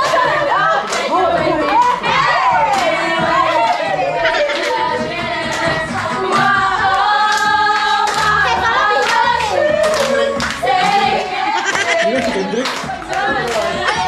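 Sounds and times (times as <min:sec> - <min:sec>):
singing voices: 0:00.0 - 0:14.0
steady beat: 0:00.0 - 0:14.0.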